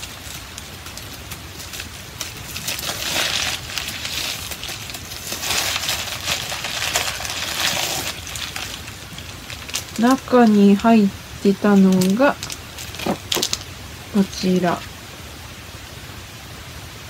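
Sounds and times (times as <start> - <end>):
packaging rustling and crackling: 0.0 - 13.8.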